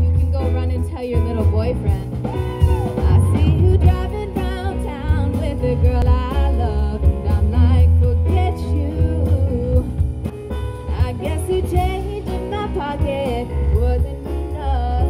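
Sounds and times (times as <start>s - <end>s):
woman singing: 0.0s - 10.2s, 10.9s - 15.0s
drum kit: 0.0s - 15.0s
piano: 0.0s - 15.0s
upright double bass: 0.0s - 15.0s.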